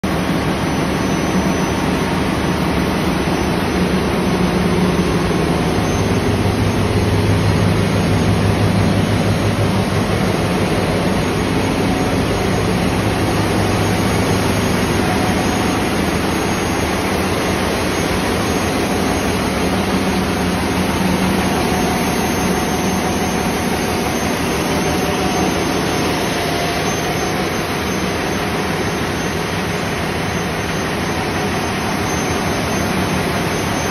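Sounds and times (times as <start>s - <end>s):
diesel generators running: 0.0s - 33.9s.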